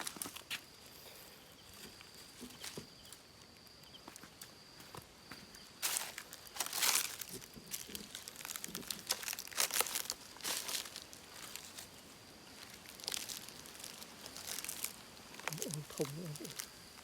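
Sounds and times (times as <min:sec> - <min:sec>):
rustling and crinkling: 0:00.0 - 0:00.9, 0:01.6 - 0:03.6, 0:04.2 - 0:17.0.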